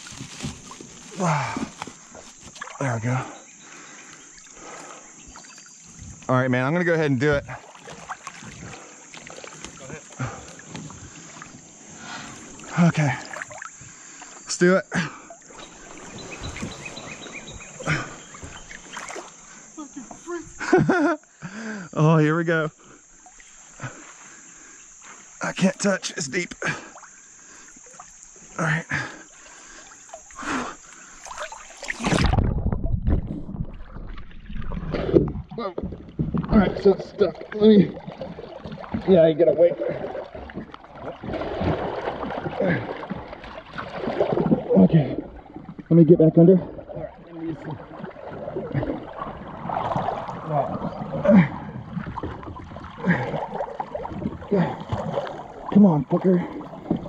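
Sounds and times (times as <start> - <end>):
water rumble buffeting microphone: 0.0 - 14.2, 15.4 - 21.0, 29.5 - 57.0
water splashing and sloshing: 0.0 - 57.0.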